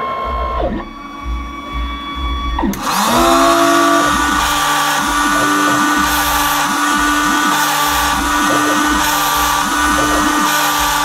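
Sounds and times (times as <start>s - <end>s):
router spindle whine: 0.0s - 11.0s
stepper motors whirring: 0.0s - 11.0s.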